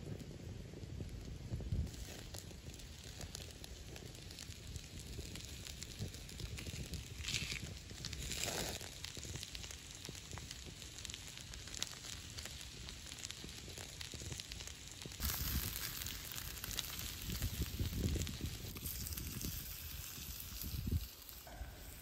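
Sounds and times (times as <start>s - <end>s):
campfire crackling and popping: 0.0s - 22.0s
fire hissing: 0.0s - 22.0s.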